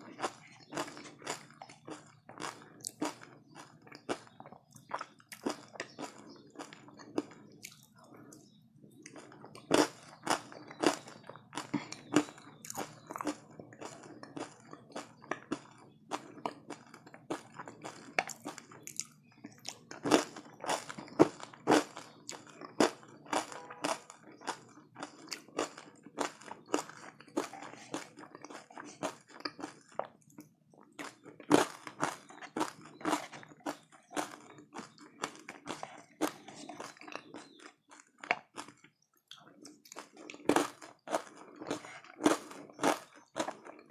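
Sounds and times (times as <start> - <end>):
crunchy food chewing: 0.0 - 43.9.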